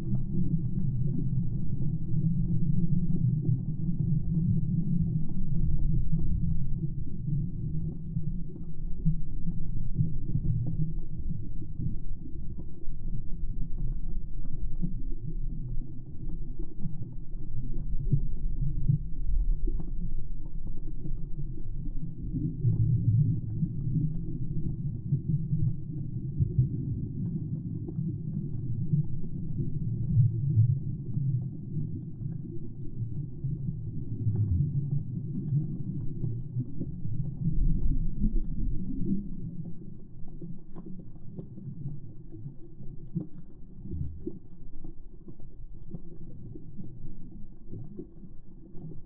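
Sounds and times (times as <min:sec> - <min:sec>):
faint clicks and crackles: 0:00.0 - 0:49.0
muffled underwater water rumble: 0:00.0 - 0:49.0
faint ticks: 0:04.0 - 0:49.0.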